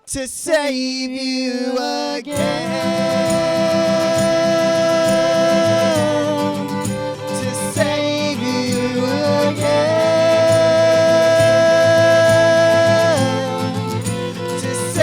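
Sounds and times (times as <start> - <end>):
soft rock with violin lead: 2.2 - 15.0.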